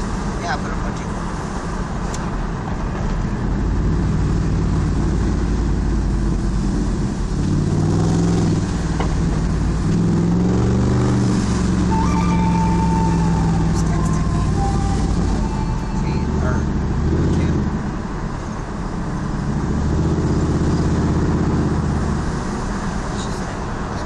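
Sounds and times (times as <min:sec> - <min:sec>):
road noise: 0:00.0 - 0:24.0
truck engine from inside cab: 0:00.0 - 0:24.0.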